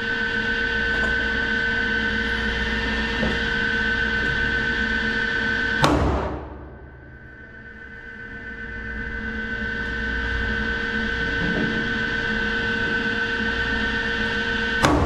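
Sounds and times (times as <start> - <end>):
ventilation drone: 0.0 - 15.0.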